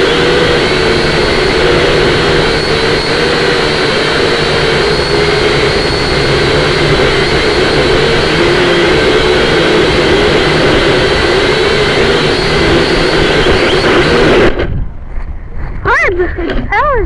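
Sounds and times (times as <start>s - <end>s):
drone propellers whining: 0.0s - 16.9s
wind noise on microphone: 0.0s - 17.0s.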